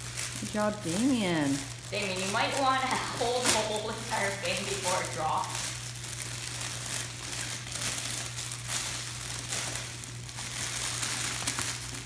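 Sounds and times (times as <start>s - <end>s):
steady low hum: 0.0s - 12.0s
wrapping paper crinkling: 0.0s - 12.0s.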